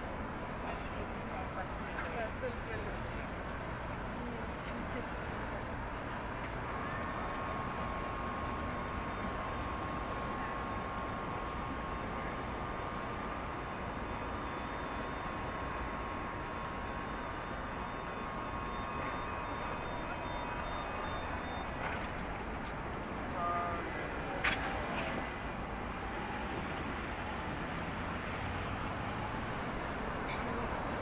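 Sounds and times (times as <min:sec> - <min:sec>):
road traffic hum: 0:00.0 - 0:31.0
faint electronic beeping: 0:00.6 - 0:27.6.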